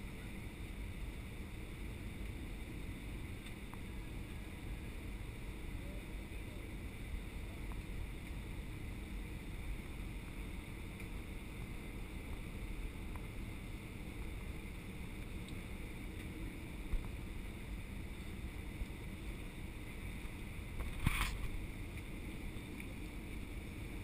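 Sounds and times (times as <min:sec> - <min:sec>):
jet engine rumble and rushing air: 0:00.0 - 0:24.0.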